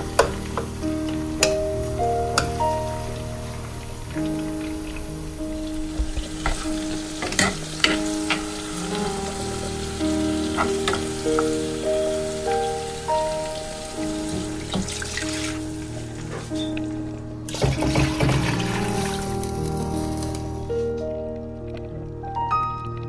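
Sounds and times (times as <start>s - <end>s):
fish sizzling in a pot: 0.0s - 16.8s, 17.5s - 20.7s
soft slow background music: 0.0s - 23.0s.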